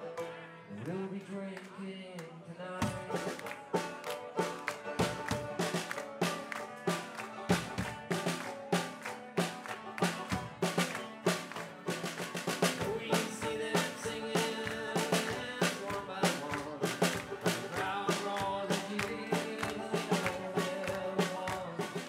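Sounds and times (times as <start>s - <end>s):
guitars: 0.0s - 1.9s, 2.6s - 22.0s
drum kit beat: 2.8s - 22.0s.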